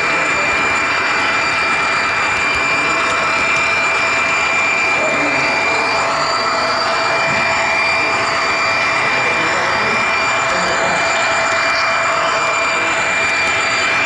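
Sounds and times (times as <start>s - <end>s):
model train whine and rumble: 0.0s - 14.0s.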